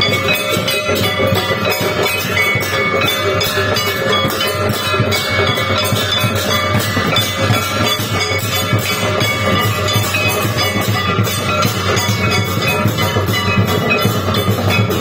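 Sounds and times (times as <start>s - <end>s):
drums: 0.0s - 15.0s
metal gong struck rapidly: 0.0s - 15.0s.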